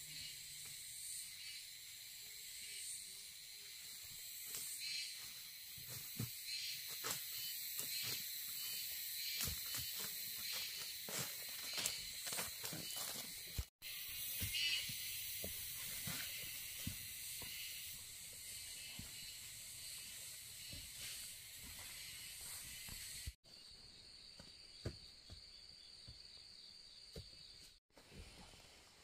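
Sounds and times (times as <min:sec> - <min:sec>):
insects hissing: 0:00.0 - 0:27.0.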